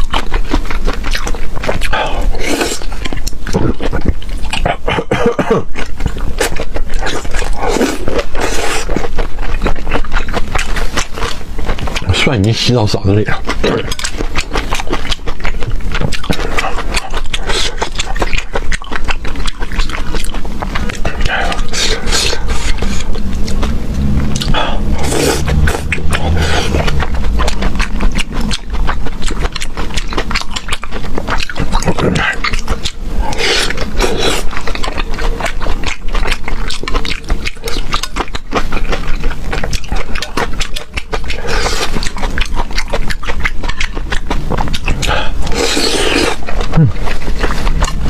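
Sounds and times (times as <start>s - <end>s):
person chewing and slurping food: 0.0s - 48.0s.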